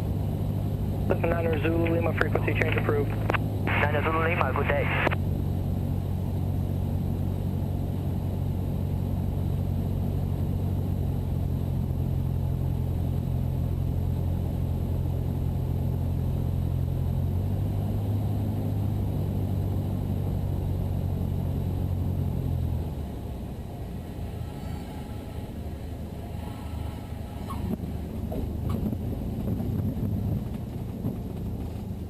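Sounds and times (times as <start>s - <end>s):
plane engine and propeller droning: 0.0s - 32.0s.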